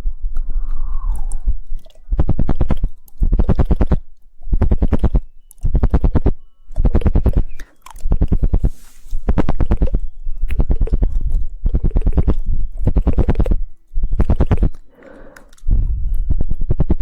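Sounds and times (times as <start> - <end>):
wet mouth sound: 0.3 - 13.6, 14.2 - 16.9
rapid tongue clicking: 0.3 - 17.0.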